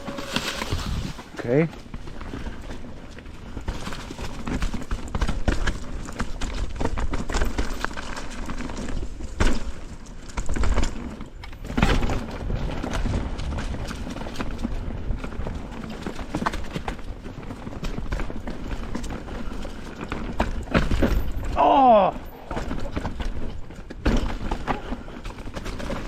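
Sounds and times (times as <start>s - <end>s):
mountain bike rattling over rocks: 0.0s - 26.0s.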